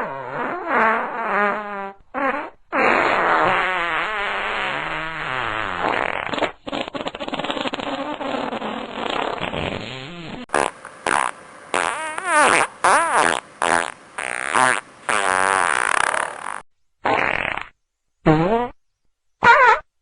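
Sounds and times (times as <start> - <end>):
fart sounds: 0.0 - 18.8, 19.4 - 19.9.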